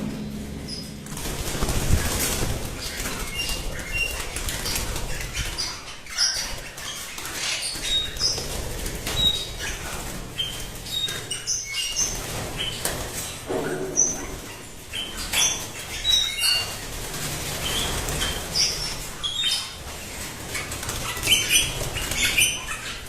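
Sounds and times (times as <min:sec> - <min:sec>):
birds chirping and whistling: 0:00.0 - 0:23.0
birds flapping wings: 0:01.0 - 0:13.4, 0:15.2 - 0:23.0.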